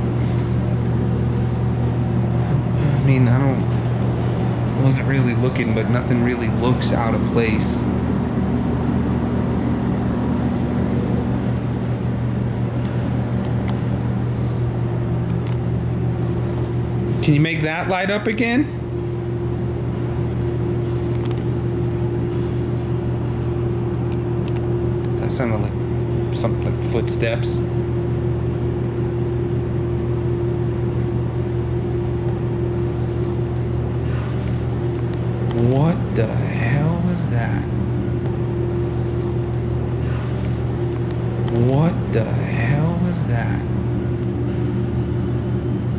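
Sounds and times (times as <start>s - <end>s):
low mechanical hum: 0.0s - 45.9s.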